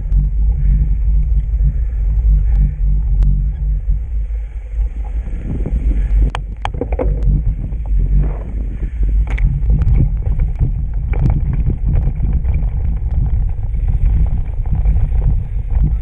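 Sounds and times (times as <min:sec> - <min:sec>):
bike trail rumble: 0:00.0 - 0:16.0
wind on camera microphone: 0:00.0 - 0:16.0.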